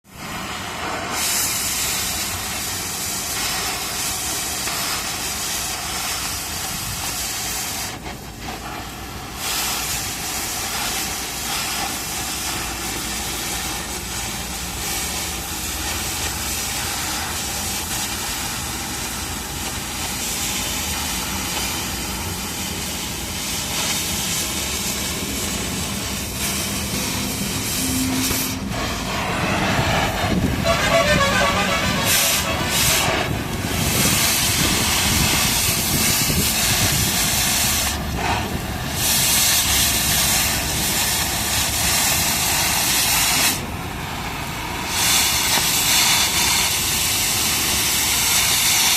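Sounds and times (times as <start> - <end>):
welding arc hissing: 0.1 - 48.9.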